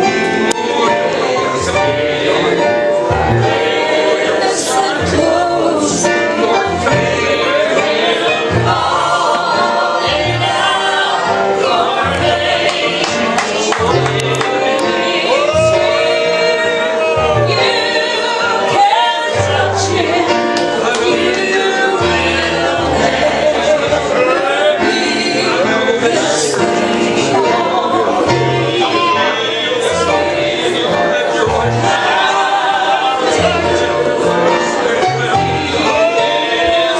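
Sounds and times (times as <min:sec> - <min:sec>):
gospel singing with band: 0:00.0 - 0:36.9.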